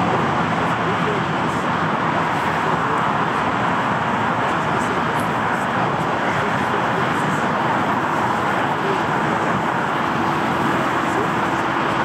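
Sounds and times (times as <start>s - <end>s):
faint steady whine: 0.0s - 12.0s
jet engines at low thrust: 0.0s - 12.0s.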